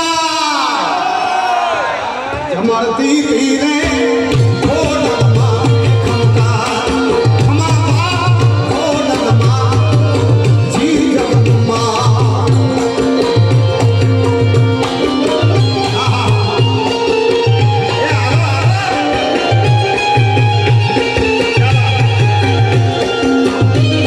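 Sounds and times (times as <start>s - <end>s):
tabla: 2.3s - 24.0s.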